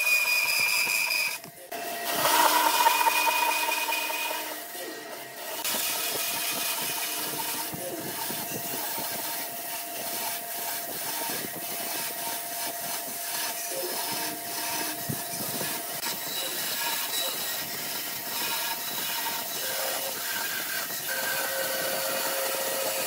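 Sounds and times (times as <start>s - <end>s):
band saw humming: 0.0s - 23.0s
saw blade rasping through wood: 0.0s - 23.0s.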